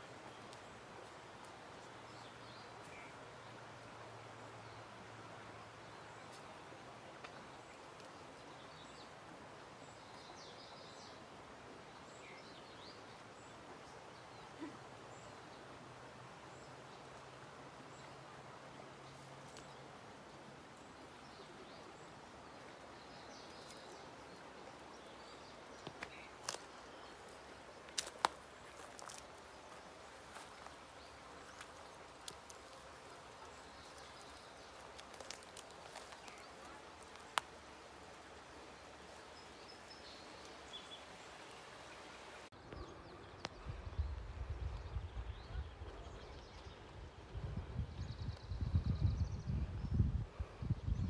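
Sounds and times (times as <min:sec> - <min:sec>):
background hiss: 0:00.0 - 0:48.6.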